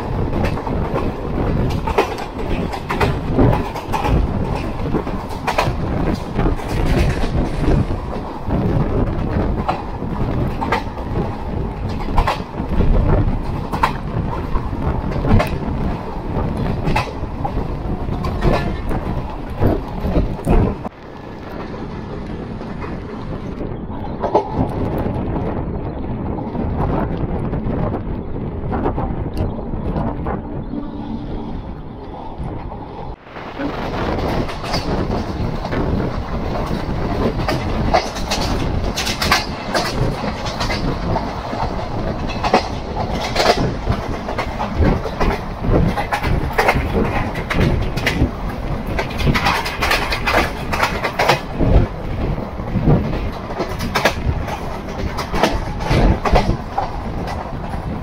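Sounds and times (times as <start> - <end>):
train wheels clicking over rail joints: 0.0 - 25.4, 32.6 - 58.0
train rumble: 0.0 - 58.0.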